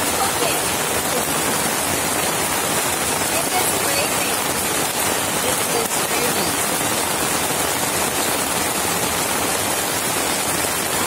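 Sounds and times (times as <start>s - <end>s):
rain on concrete hissing: 0.0s - 11.0s.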